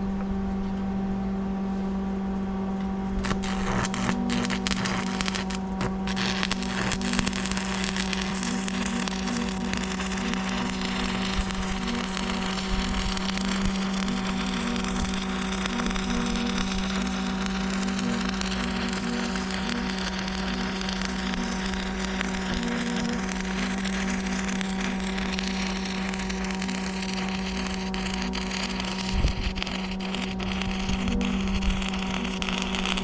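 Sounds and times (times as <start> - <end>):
welder humming: 3.1 - 33.0
welding arc crackling: 3.2 - 33.0.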